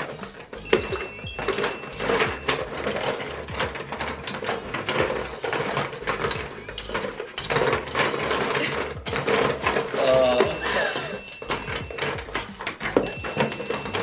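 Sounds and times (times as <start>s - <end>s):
chopsticks and balls rattling in buckets: 0.0s - 14.0s.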